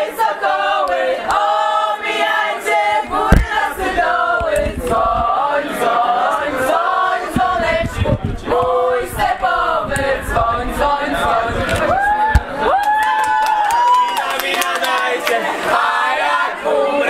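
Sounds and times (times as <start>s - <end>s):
group of people singing: 0.0s - 12.7s, 14.2s - 17.0s.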